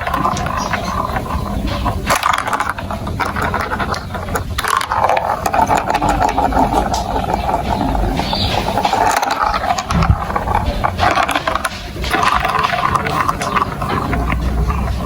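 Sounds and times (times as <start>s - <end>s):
marbles clattering on plastic run: 0.0s - 15.0s
marbles rolling rumble: 0.0s - 15.0s.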